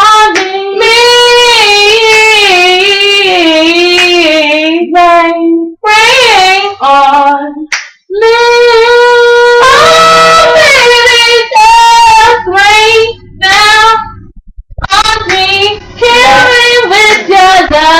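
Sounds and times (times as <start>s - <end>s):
girl singing: 0.0s - 17.9s.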